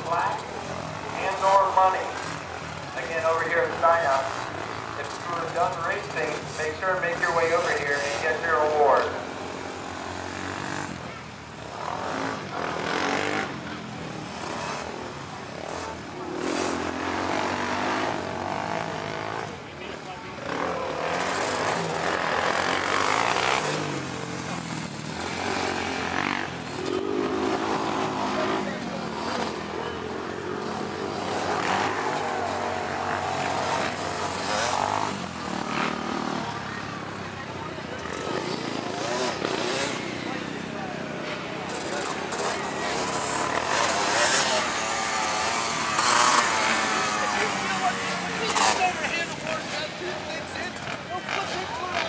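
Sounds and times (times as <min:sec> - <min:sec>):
quad engine revving: 0:00.0 - 0:52.0.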